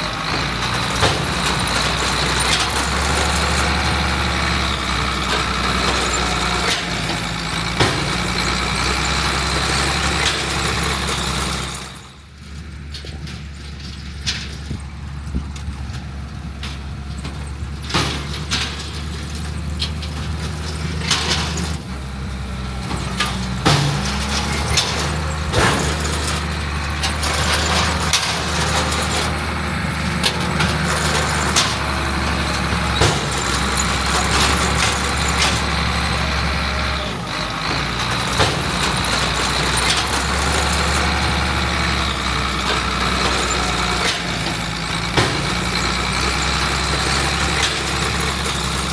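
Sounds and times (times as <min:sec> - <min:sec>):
diesel machinery running: 0:00.0 - 0:48.9
knocks and clanks: 0:00.0 - 0:48.9.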